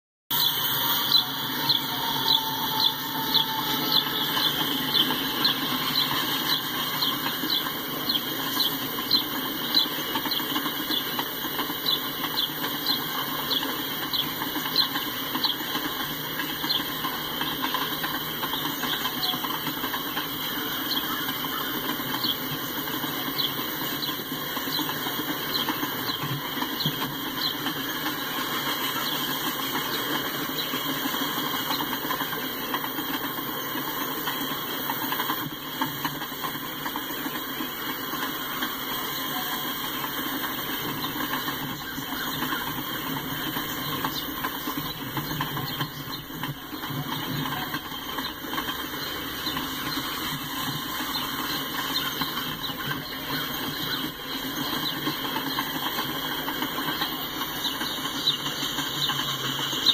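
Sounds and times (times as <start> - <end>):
freight train rumbling: 0.3 - 59.9
rhythmic wheel clicking: 0.3 - 59.9.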